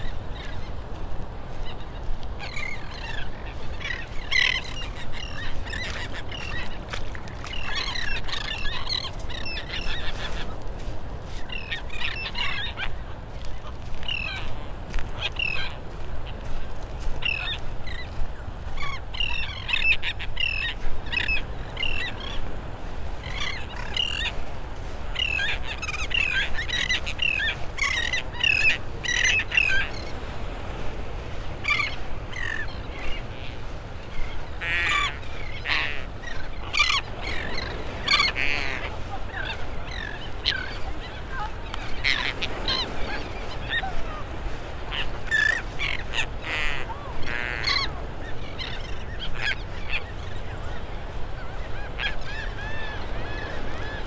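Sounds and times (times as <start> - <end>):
flock of shorebirds calling: 0.0 - 54.0.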